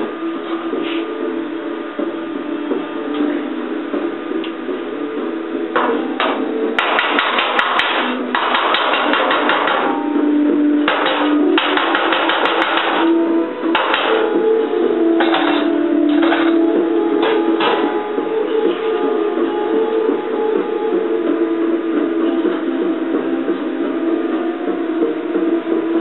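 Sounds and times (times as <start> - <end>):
background music: 0.0 - 26.0.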